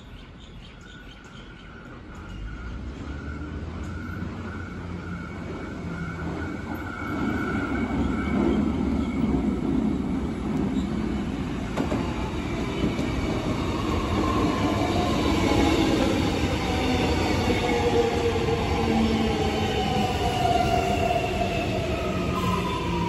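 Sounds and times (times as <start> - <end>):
electric train passing: 1.7 - 23.0.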